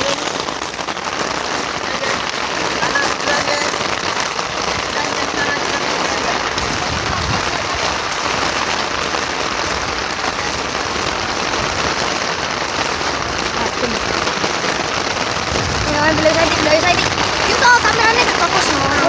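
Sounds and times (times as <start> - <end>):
heavy rain pattering: 0.0 - 19.0.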